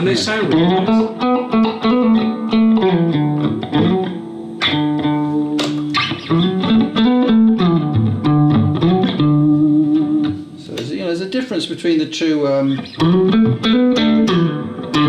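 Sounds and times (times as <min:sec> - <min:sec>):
electric guitar picking: 0:00.0 - 0:11.0, 0:12.7 - 0:15.0.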